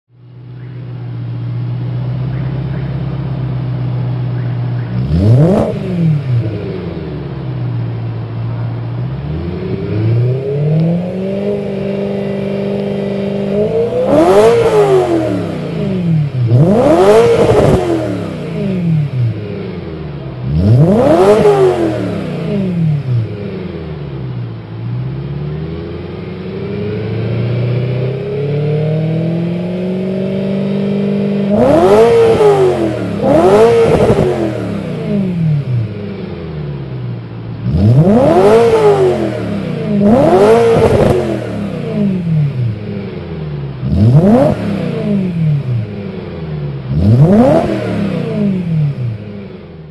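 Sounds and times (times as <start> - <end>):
car engine idling and revving: 0.1 - 49.9.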